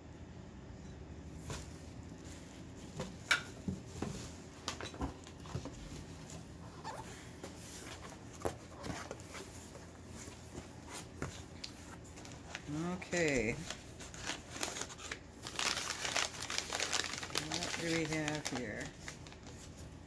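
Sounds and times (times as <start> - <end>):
packing material rustling: 1.4 - 20.0.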